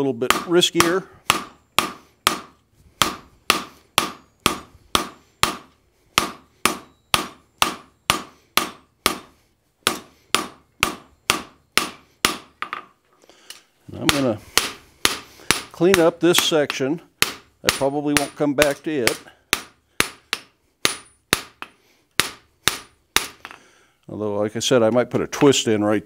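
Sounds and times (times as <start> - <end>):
hammer striking steel on anvil: 0.3 - 12.9, 14.0 - 23.6.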